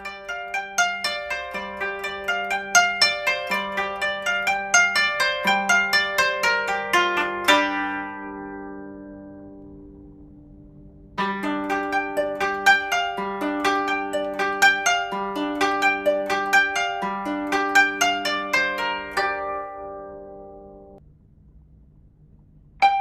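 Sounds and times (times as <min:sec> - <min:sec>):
chord: 0:00.0 - 0:21.0
plucked string melody: 0:00.0 - 0:21.0, 0:22.8 - 0:23.0.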